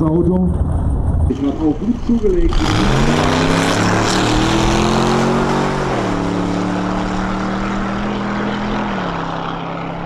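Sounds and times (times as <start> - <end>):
truck engine at full throttle: 0.5 - 10.0.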